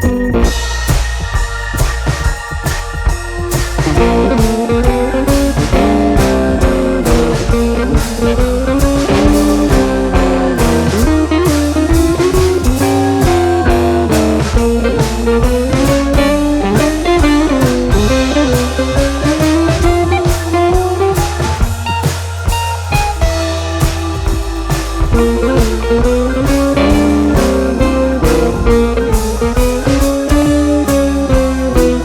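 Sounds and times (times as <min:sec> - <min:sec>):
bass: 0:00.0 - 0:32.0
sliding guitar lead: 0:00.0 - 0:32.0
steady drum beat: 0:00.0 - 0:32.0.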